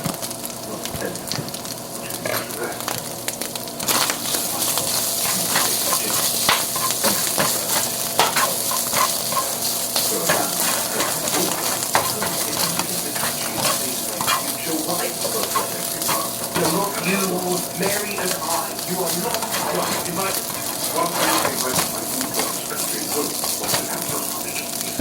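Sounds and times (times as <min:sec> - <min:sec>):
food sizzling in a frying pan: 0:00.0 - 0:25.0
utensil scraping a pan: 0:03.8 - 0:25.0.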